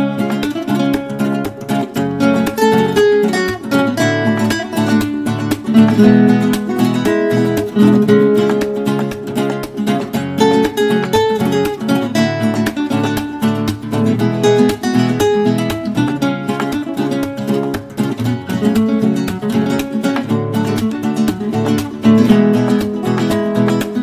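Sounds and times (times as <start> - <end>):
acoustic guitar run: 0.0 - 24.0.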